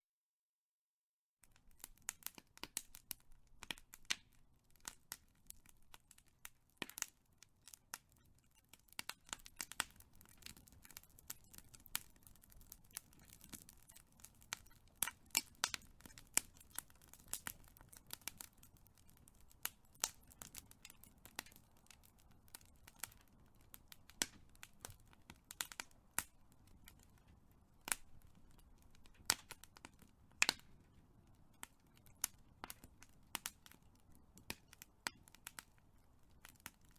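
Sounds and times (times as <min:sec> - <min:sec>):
wood fire crackling: 0:01.4 - 0:36.9
low rumble of burning: 0:01.6 - 0:36.9.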